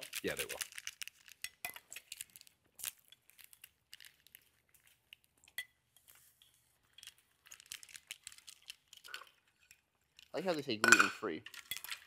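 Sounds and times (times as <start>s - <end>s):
dishes and packaging clicking: 0.0s - 12.0s.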